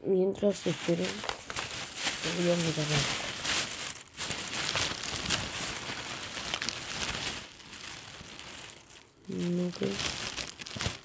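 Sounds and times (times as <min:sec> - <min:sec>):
rustling and crinkling: 0:00.4 - 0:11.0.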